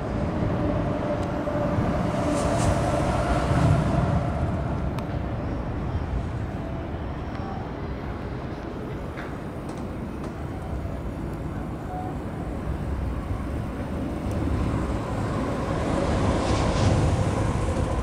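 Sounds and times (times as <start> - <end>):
vehicle rumble with faint hum: 0.0 - 18.0.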